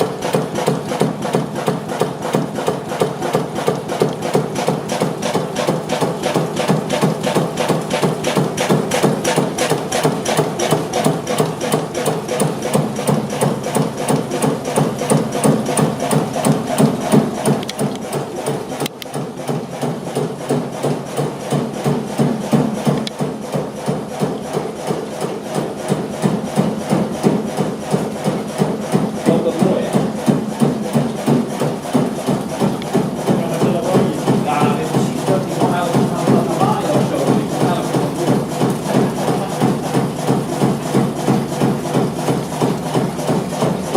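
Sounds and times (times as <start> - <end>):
diesel engine knocking: 0.0 - 43.9.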